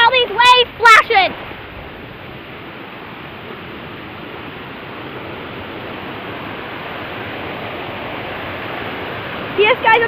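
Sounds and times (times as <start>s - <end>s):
water rushing and pouring: 0.0s - 10.0s.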